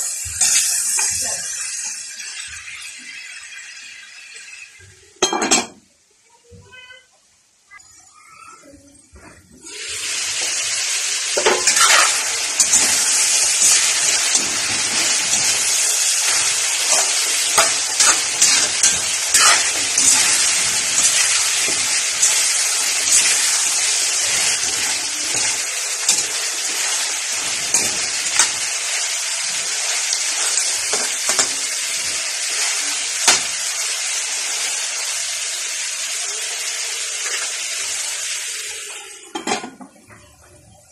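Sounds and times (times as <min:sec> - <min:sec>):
meat sizzling in a wok: 0:00.0 - 0:05.2, 0:09.6 - 0:39.6.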